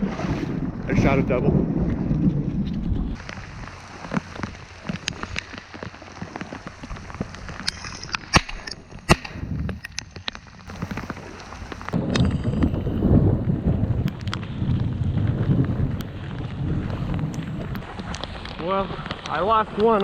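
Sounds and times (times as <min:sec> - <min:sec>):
raindrops ticking near microphone: 0:00.9 - 0:20.0.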